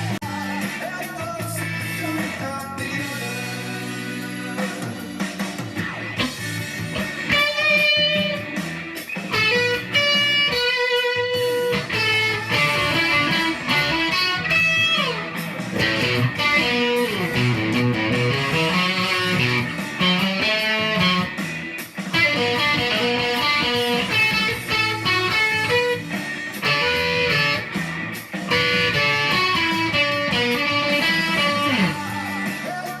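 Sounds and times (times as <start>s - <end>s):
rock band backing: 0.0s - 33.0s
electric guitar solo: 5.8s - 32.4s.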